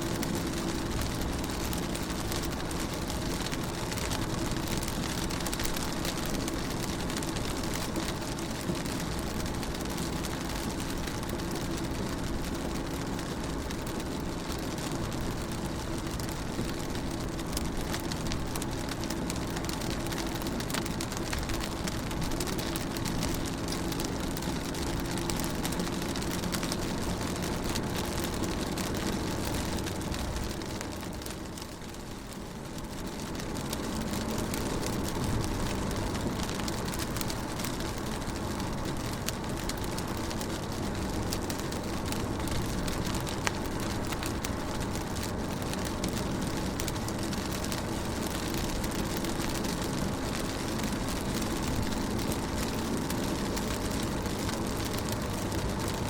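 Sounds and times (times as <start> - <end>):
rain pattering on car window: 0.0 - 56.0.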